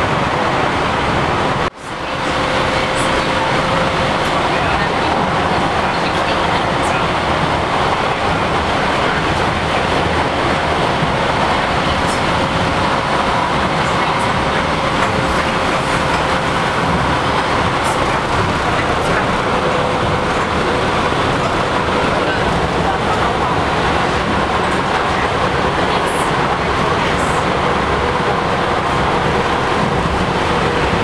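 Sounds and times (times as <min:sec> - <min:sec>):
train rumble inside cabin: 0:00.0 - 0:31.0.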